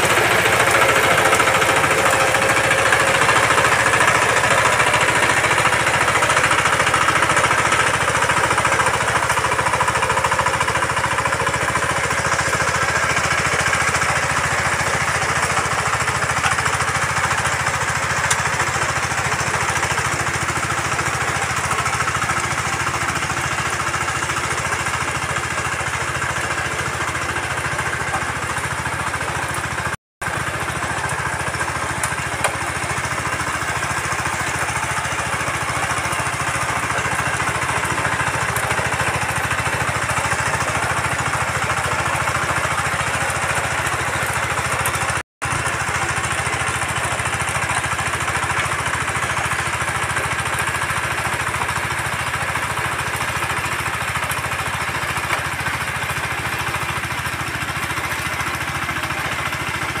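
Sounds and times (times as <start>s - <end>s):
power tiller diesel engine running: 0.0s - 60.0s
rotary tines tilling soil: 0.0s - 60.0s.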